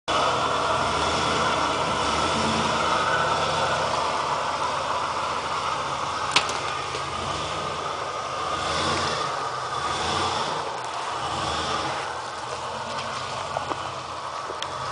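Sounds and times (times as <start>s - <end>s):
truck engine running: 0.0s - 14.9s.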